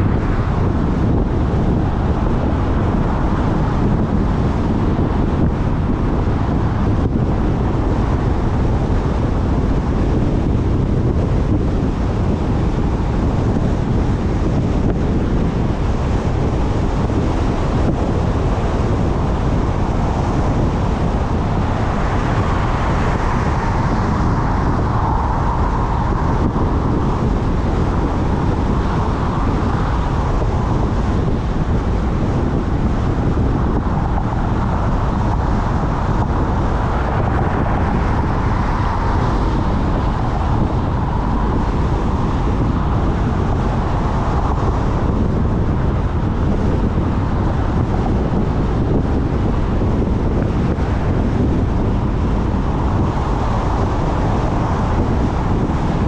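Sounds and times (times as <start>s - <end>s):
car engine: 0.0s - 56.0s
tyres on concrete road: 0.0s - 56.0s.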